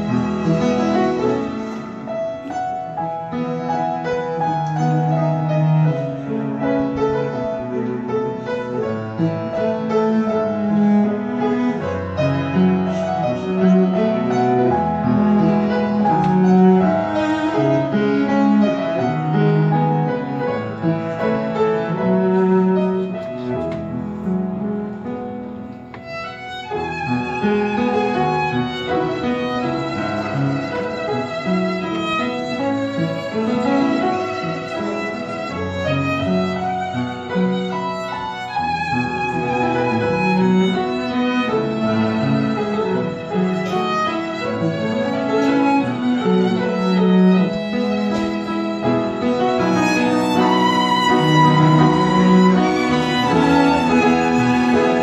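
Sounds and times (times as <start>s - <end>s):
violin melody with vibrato: 0.0s - 24.3s, 25.9s - 55.0s
cello: 0.0s - 55.0s
upright piano: 0.0s - 55.0s.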